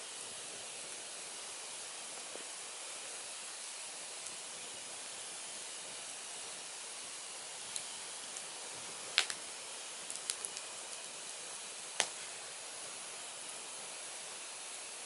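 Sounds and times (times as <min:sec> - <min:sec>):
firewood crackling and popping: 0:00.3 - 0:14.4.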